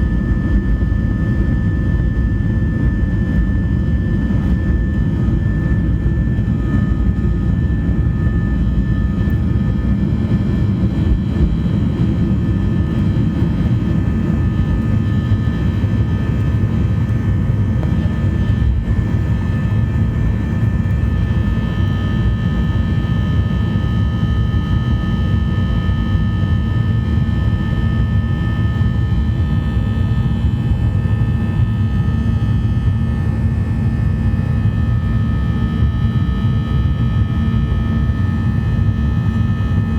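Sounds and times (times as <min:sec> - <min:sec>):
high engine whine: 0:00.0 - 0:39.9
jet engine cabin rumble: 0:00.0 - 0:39.9.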